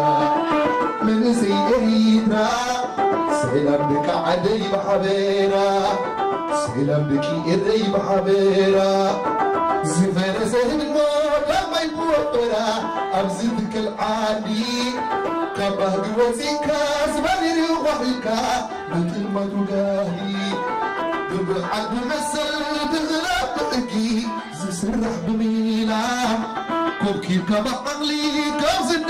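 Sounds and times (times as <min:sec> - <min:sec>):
band with plucked lyre: 0:00.0 - 0:29.0
man singing: 0:00.0 - 0:29.0.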